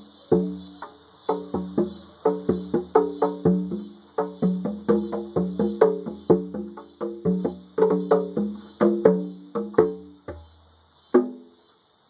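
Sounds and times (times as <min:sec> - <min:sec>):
conga drums played by hand: 0:00.0 - 0:11.6
cicadas buzzing: 0:00.0 - 0:12.0.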